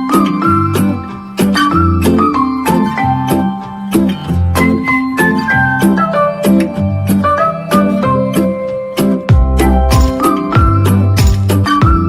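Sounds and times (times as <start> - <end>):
melody over steady beat: 0.0 - 12.0.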